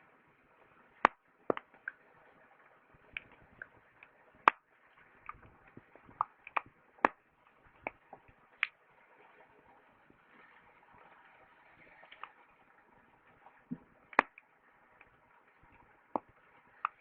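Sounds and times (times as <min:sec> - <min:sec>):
firewood crackling and popping: 0:00.8 - 0:17.0.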